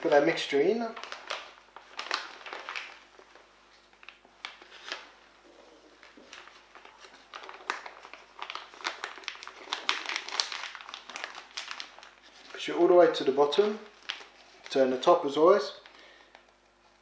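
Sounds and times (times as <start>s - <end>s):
plastic piping bag crinkling: 0.0s - 17.0s.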